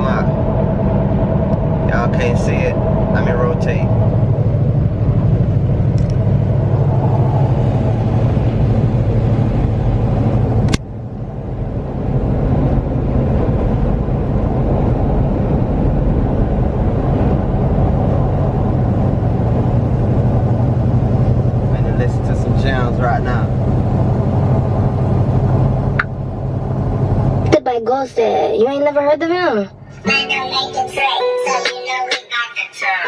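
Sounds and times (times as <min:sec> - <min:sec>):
road and engine drone: 0:00.0 - 0:33.0.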